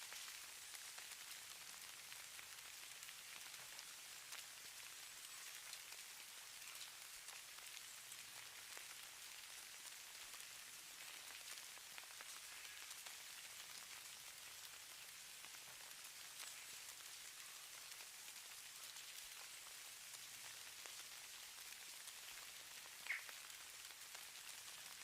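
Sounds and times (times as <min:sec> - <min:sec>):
snow grains pattering: 0:00.0 - 0:25.0.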